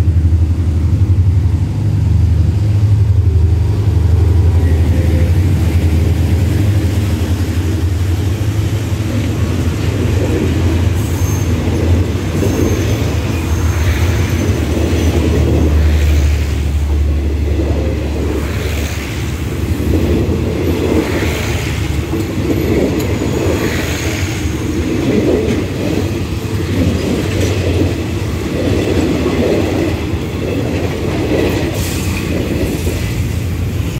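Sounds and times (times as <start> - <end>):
diesel locomotive rumble: 0.0 - 33.9
train wheels clacking over rail joints: 4.3 - 33.6.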